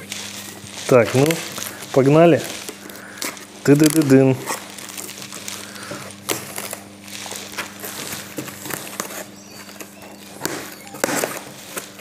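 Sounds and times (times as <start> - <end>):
cardboard scraping and rustling: 0.0 - 12.0
low electrical hum: 0.0 - 12.0.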